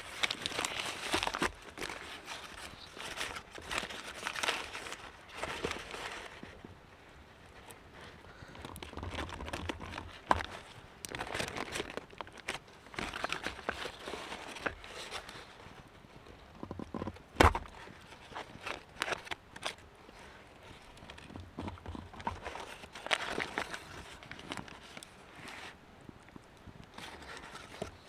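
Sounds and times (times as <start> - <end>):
rustling and crinkling handling: 0.0 - 28.0.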